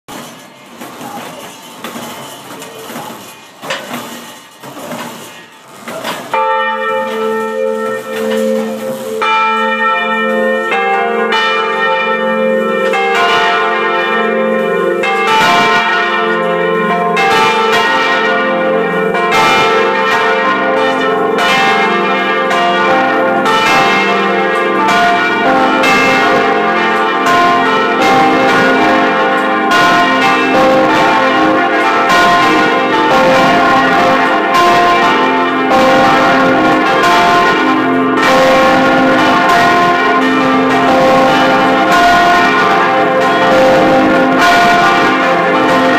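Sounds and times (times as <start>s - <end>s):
large bells ringing: 0.1s - 45.9s.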